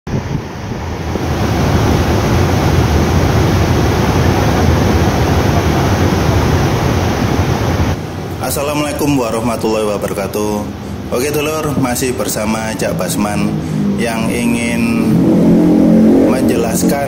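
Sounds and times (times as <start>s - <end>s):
waterfall rushing: 0.2s - 17.0s.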